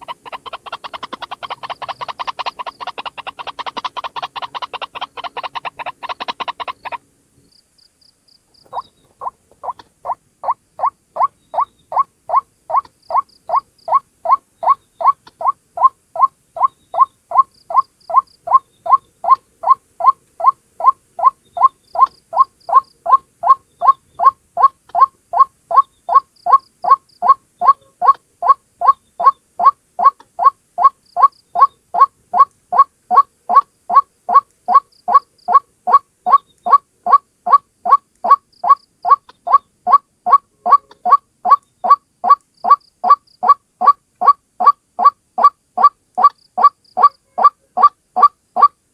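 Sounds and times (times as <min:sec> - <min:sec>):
waterhen croaking calls: 0:00.0 - 0:07.0, 0:08.6 - 0:48.8.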